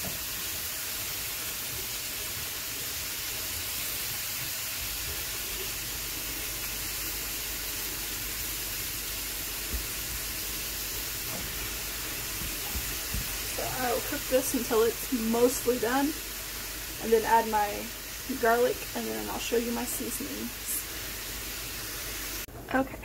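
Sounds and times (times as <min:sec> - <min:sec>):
meat sizzling in a pan: 0:00.0 - 0:22.5.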